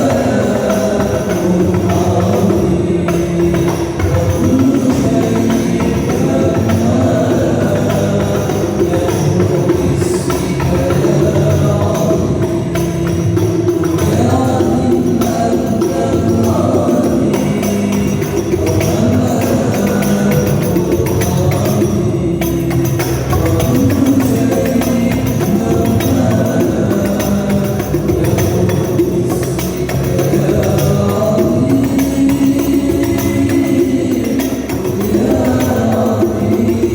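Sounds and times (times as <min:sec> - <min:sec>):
devotional music: 0:00.0 - 0:36.9
hand-drum percussion with jingling: 0:00.0 - 0:36.9.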